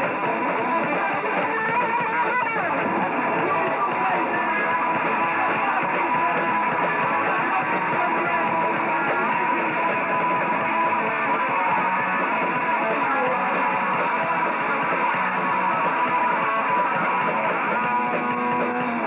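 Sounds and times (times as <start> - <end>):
punk rock band playing live: 0.0 - 19.0.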